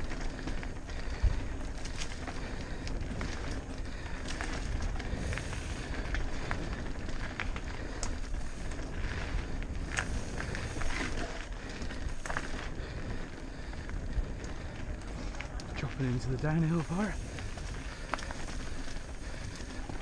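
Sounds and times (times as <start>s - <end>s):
bike clicks and rattles: 0.0s - 20.0s
bike tyres rolling on dirt: 0.0s - 20.0s.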